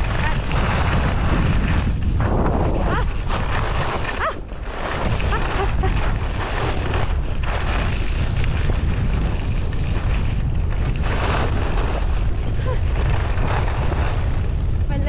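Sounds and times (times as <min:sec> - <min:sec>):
skis scraping across snow: 0:00.0 - 0:15.0
wind buffeting microphone: 0:00.0 - 0:15.0.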